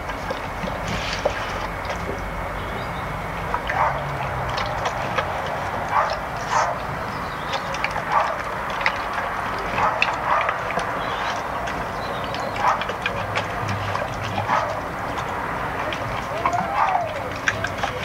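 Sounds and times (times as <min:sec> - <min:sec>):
dog chewing and smacking: 0:00.0 - 0:18.0
teeth clicking against metal bowl: 0:03.4 - 0:18.0.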